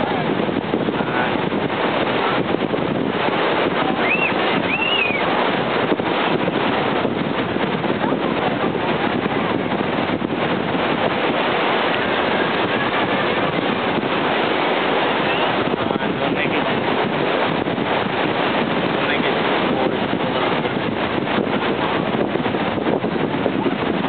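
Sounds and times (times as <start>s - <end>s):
breaking surf: 0.0s - 24.0s
wind buffeting microphone: 0.0s - 24.0s.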